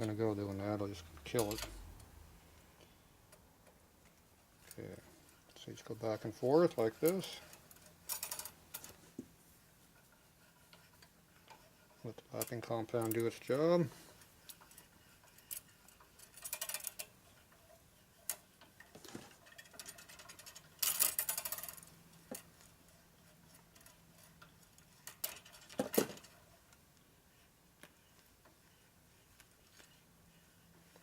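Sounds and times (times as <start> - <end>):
metal nut clicking and scraping: 0.0 - 2.1, 3.3 - 9.2, 9.9 - 26.8.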